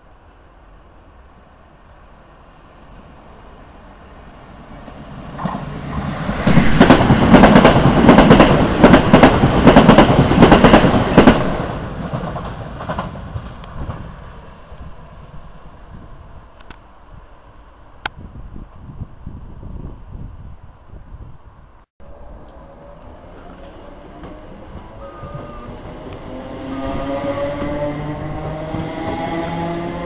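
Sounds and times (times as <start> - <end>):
train passing at speed: 0.0 - 20.3, 22.0 - 30.0.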